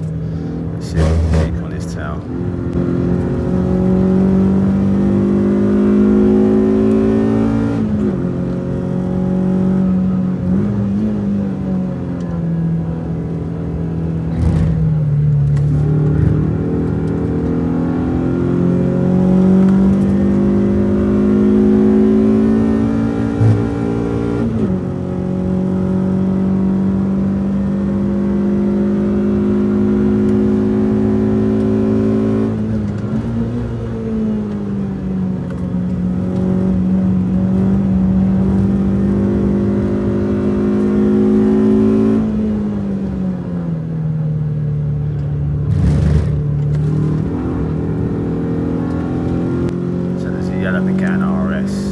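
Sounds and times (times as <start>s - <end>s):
car engine under load: 0.0s - 51.9s.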